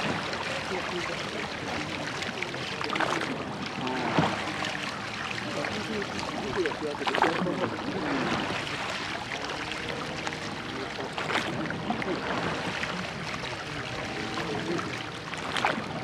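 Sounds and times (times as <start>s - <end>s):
oar strokes: 0.0s - 16.0s
water rushing past boat hull: 0.0s - 16.0s.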